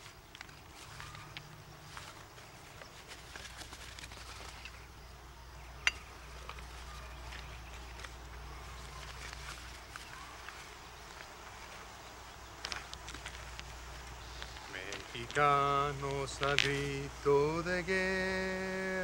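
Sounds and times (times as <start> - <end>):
hands rustling in soil: 0.0 - 17.7.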